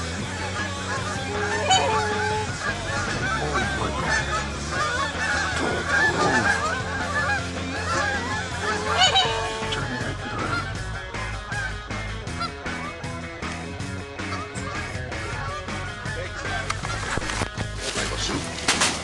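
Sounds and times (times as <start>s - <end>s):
geese honking: 0.0s - 18.5s.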